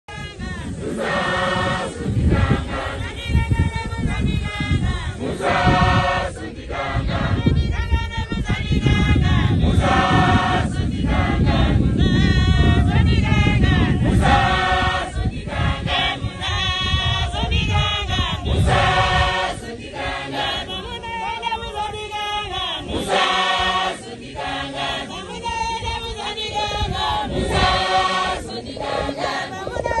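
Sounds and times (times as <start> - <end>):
congregation singing a hymn: 0.1 - 30.0.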